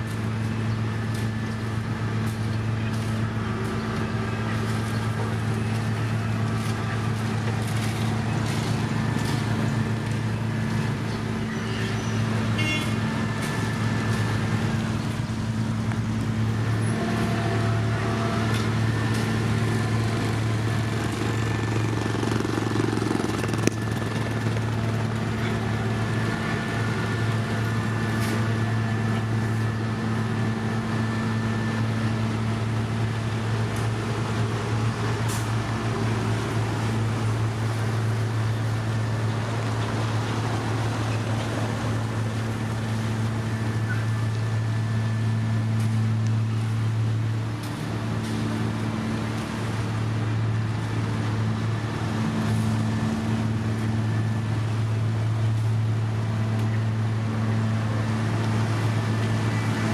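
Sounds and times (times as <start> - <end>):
heavy machinery engine humming: 0.0 - 59.9.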